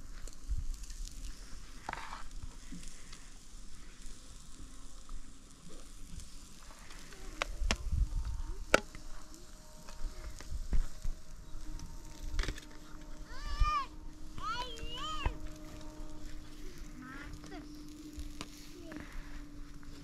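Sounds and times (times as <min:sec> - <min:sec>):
kebabs sizzling on a barbecue: 0:00.0 - 0:20.0.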